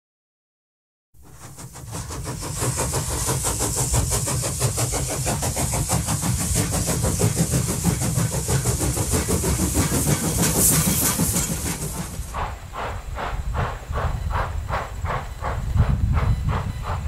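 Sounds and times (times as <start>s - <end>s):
steady steam hiss: 1.2s - 17.0s
steam locomotive exhaust beats: 1.2s - 17.0s.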